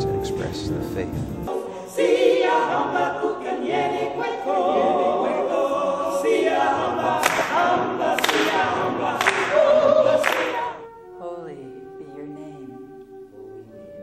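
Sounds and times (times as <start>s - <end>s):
choir singing unaccompanied: 1.5s - 13.8s.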